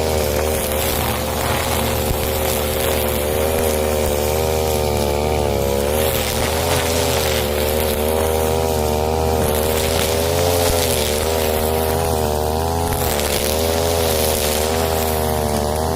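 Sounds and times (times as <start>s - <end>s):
brush cutter engine running: 0.0s - 15.9s.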